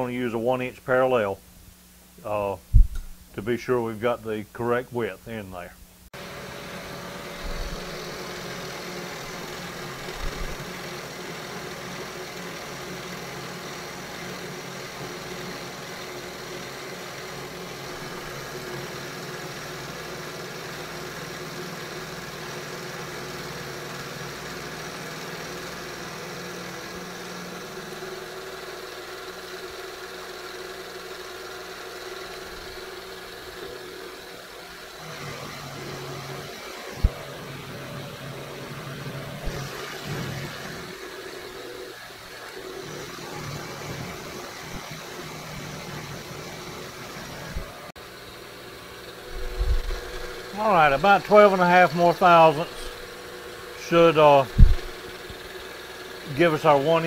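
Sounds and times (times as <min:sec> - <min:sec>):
milling machine cutting metal: 0:06.2 - 0:57.0.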